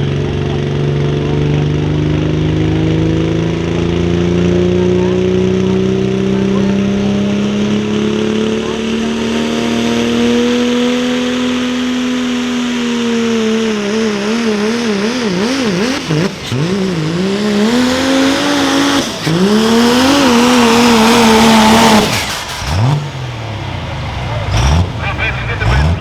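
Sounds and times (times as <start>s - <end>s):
diesel truck engine at high revs: 0.0s - 26.0s.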